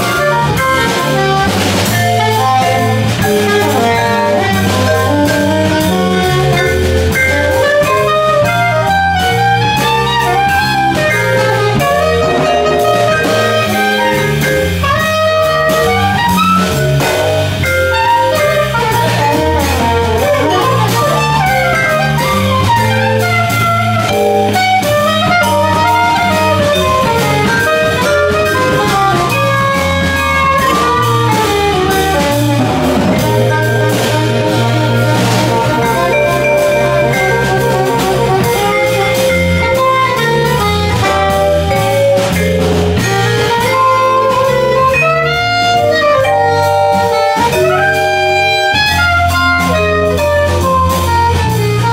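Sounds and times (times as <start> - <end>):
drum kit: 0.0 - 51.9
vibraphone soloing: 0.0 - 51.9
walking bass line: 0.0 - 51.9.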